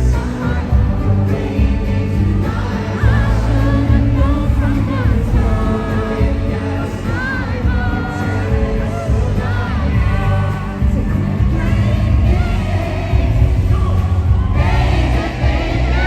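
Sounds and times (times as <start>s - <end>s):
loud pop music with bass beat: 0.0s - 16.0s.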